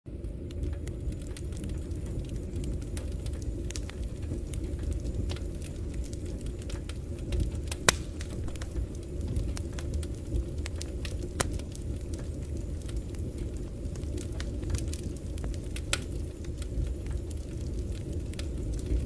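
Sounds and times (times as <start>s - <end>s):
fire crackling and popping: 0.1s - 19.0s
flames rumbling: 0.1s - 19.0s.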